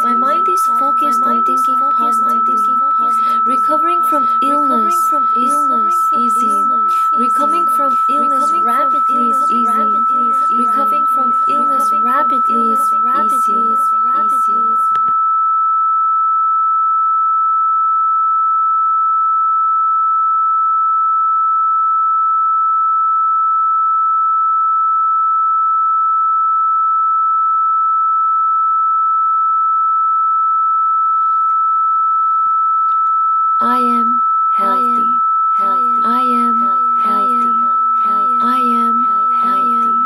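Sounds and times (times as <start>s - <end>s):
high electronic sine tone: 0.0s - 40.0s.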